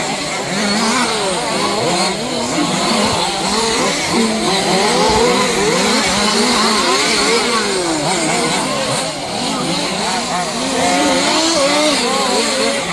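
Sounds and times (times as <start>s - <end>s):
rc car engines revving: 0.0s - 12.9s.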